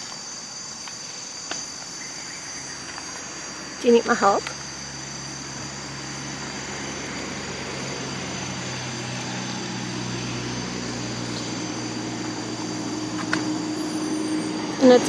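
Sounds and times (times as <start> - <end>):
steady engine drone: 0.0 - 15.0
hissing wash: 2.7 - 15.0.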